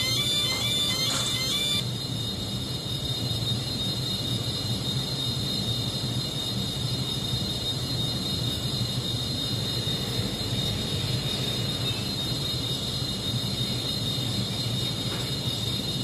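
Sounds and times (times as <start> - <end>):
gas turbine idle whine: 0.0 - 16.0.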